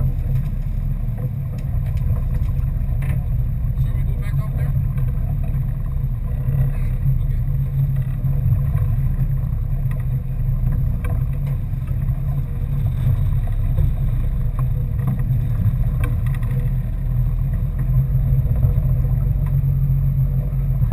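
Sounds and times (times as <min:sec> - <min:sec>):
boat engine droning: 0:00.0 - 0:20.9.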